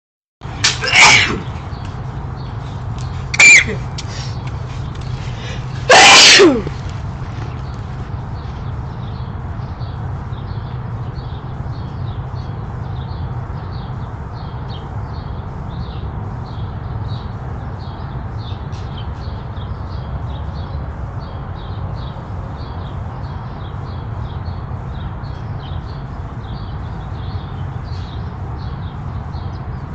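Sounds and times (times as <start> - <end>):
small birds chirping: 0.5 - 29.9.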